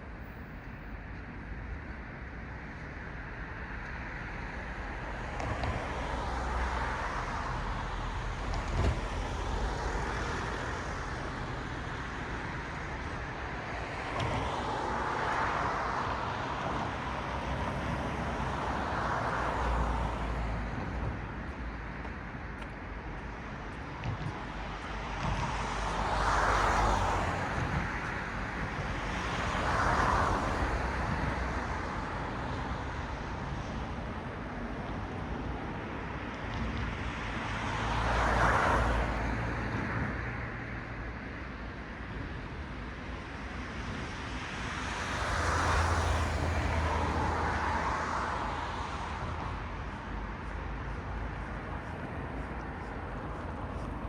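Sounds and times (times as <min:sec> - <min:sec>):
steady traffic hum: 0:00.0 - 0:54.0
cars passing: 0:00.1 - 0:54.0.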